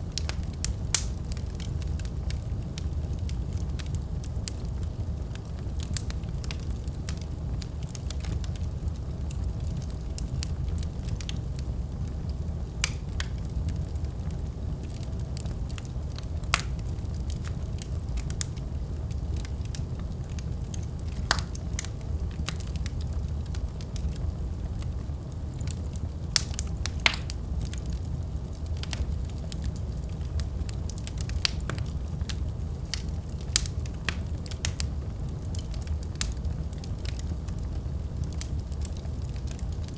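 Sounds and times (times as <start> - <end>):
fire flames rumbling: 0.0 - 39.9
logs crackling and popping: 0.0 - 39.9.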